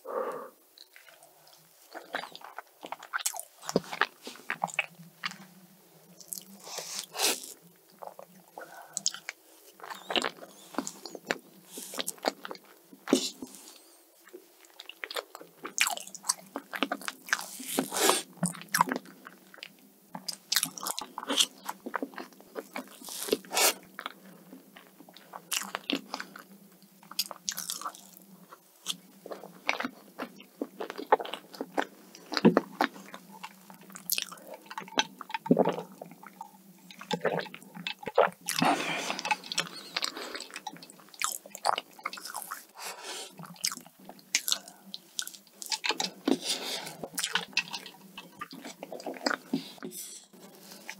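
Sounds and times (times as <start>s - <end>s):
close-miked chewing and biting: 0.8s - 5.4s, 6.2s - 50.9s.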